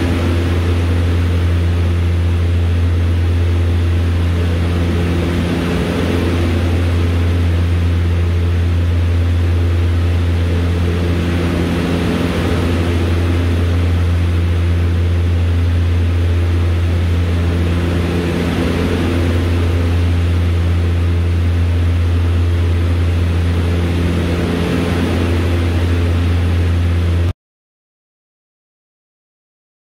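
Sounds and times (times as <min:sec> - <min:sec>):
turboprop engine drone: 0:00.0 - 0:27.3.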